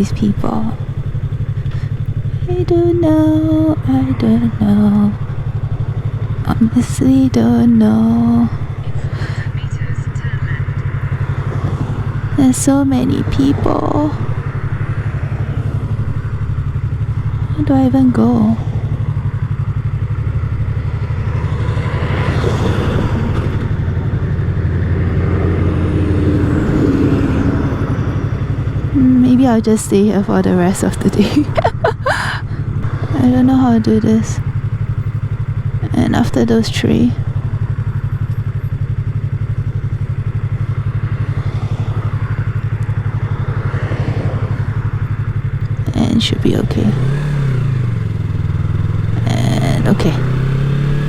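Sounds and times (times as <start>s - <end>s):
motorcycle engine running: 0.0s - 51.0s
traffic passing: 0.0s - 51.0s.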